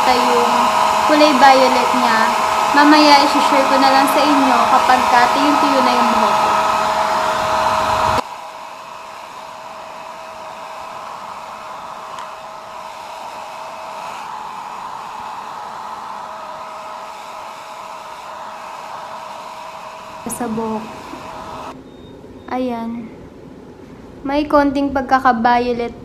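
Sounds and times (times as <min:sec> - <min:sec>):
hair dryer running: 0:00.0 - 0:21.8.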